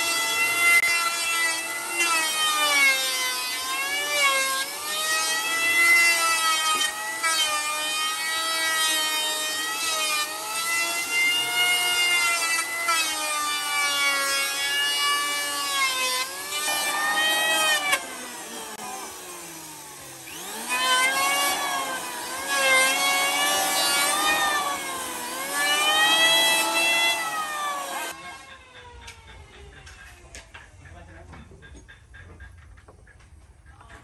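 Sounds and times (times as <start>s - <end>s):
electric planer shaving wood: 0.0s - 30.6s.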